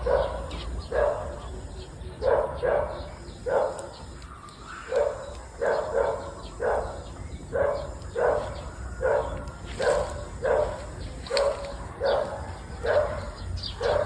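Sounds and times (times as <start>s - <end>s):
dog barking: 0.0s - 1.6s, 2.2s - 14.0s.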